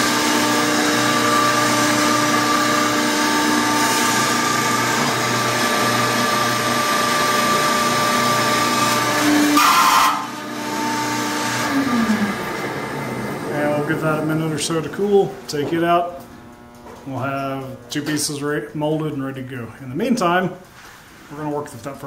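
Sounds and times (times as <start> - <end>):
electric hydraulic pump humming: 0.0 - 19.2.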